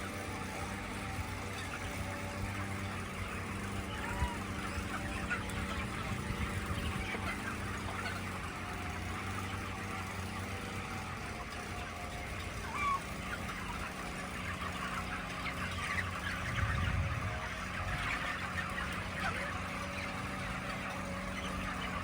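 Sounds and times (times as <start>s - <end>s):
chickens chirping and clucking: 0.0s - 22.0s.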